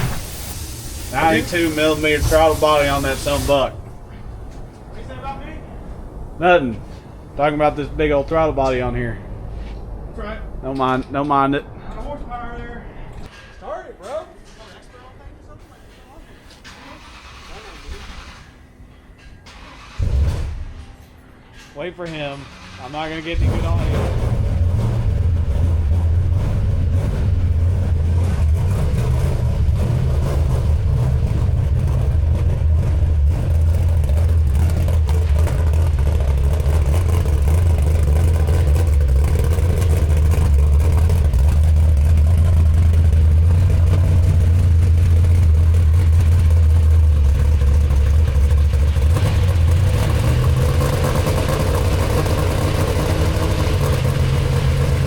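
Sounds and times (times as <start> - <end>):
car engine idling and revving: 0.0 - 11.3, 15.8 - 55.0.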